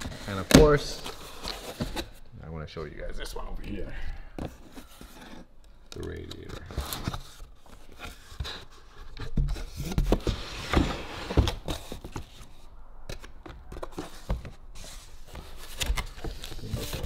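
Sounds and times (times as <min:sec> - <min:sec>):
cardboard and plastic wrap rustling: 0:00.0 - 0:02.2, 0:04.4 - 0:17.0.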